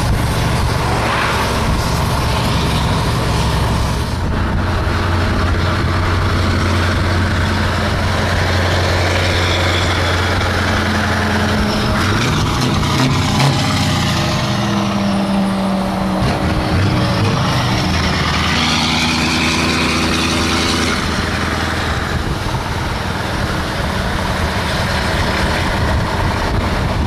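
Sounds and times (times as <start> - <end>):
diesel truck engine: 0.0 - 27.0
tyre and road noise: 0.0 - 27.0.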